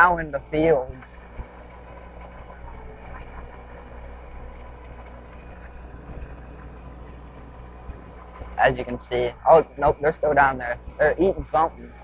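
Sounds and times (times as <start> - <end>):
dirt bike motor humming: 0.0 - 12.0.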